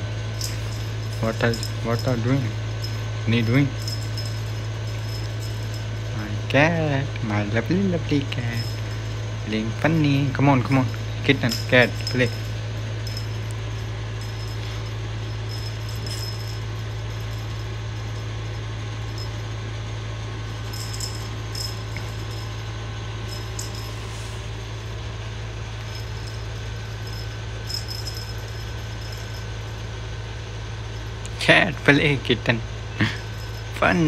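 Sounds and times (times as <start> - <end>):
toy jingling: 0.0 - 19.6, 20.3 - 25.0, 25.6 - 29.9, 33.0 - 34.0
low hum: 0.0 - 34.0.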